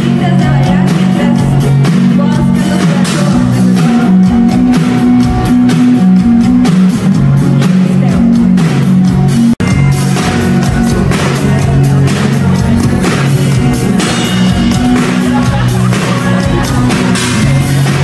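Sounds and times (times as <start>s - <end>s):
pop-rock band music: 0.0s - 18.0s.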